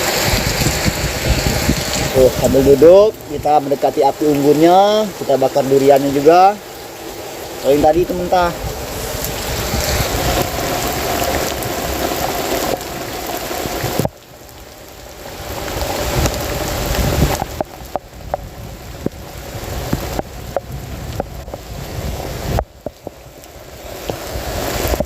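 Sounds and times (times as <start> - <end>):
heavy rain pouring: 0.0 - 25.0
sharp ticks and drips: 0.0 - 25.0.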